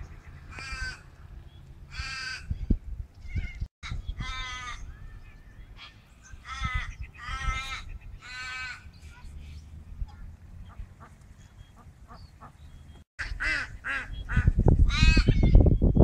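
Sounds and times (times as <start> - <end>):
harsh bird calls: 0.0 - 9.7, 10.6 - 15.9.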